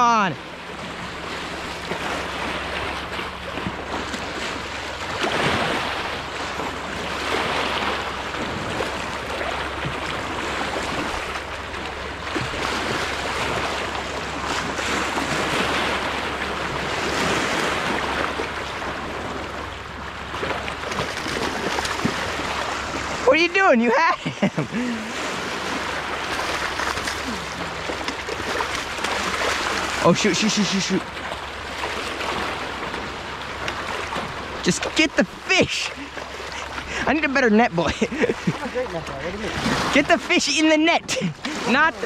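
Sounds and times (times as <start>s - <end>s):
small waves washing on shore: 0.0s - 42.0s.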